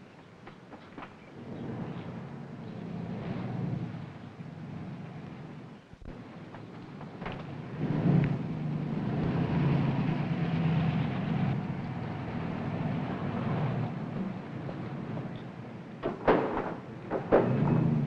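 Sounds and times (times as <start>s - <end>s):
vehicle engine driving by: 1.2s - 18.0s.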